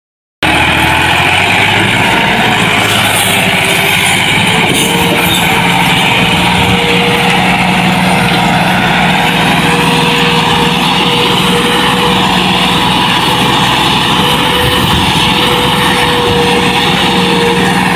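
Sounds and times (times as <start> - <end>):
tractor diesel engine running: 0.4 - 17.9.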